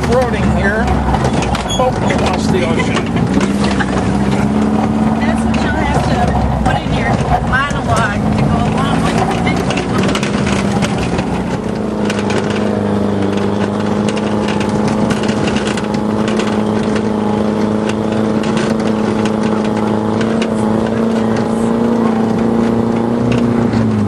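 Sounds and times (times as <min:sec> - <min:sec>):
off-road vehicle engine running: 0:00.0 - 0:24.0
vehicle rattles and knocks: 0:00.0 - 0:24.0.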